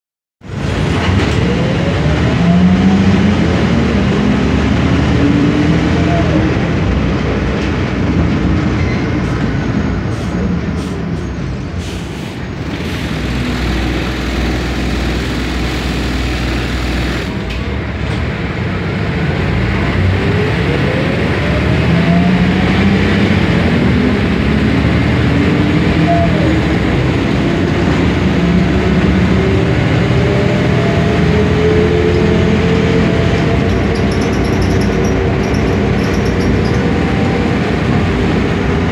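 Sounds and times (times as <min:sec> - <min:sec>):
bus diesel engine rumbling: 0:00.4 - 0:38.9.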